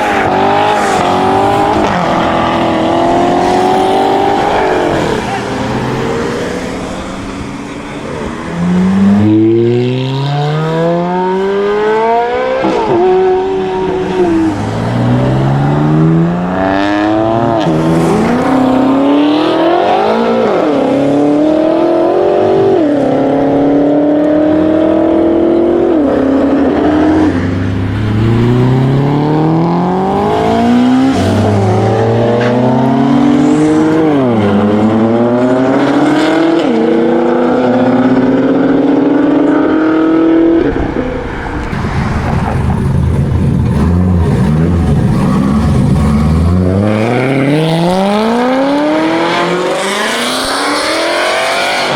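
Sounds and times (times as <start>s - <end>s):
sports car engines accelerating: 0.0s - 51.9s.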